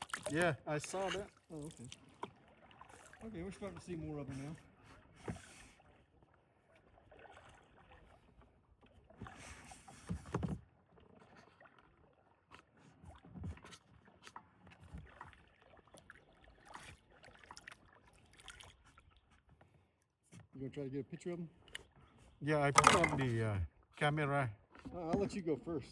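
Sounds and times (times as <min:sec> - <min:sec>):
paddle splashing in water: 0:00.0 - 0:20.6, 0:21.5 - 0:23.6.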